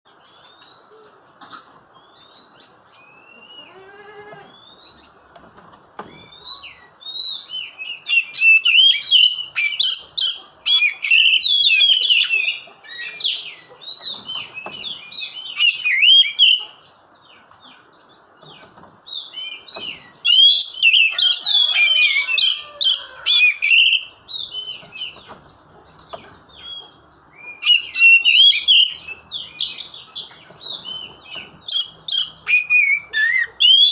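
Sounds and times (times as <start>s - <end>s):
bird singing chirps and trills: 0.1s - 1.2s, 1.9s - 33.9s.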